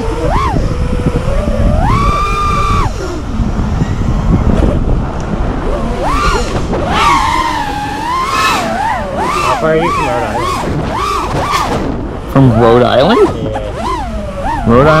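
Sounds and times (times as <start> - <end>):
drone motors whining: 0.0 - 15.0
wind rush: 0.0 - 15.0.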